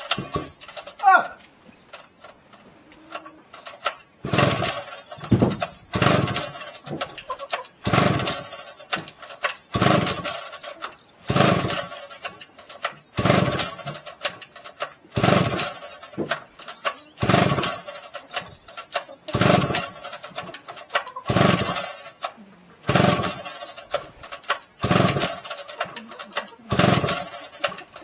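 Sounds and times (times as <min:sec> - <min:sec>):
chainsaw engine cranking: 0:00.0 - 0:28.0
chainsaw starter cord pulls: 0:00.0 - 0:28.0.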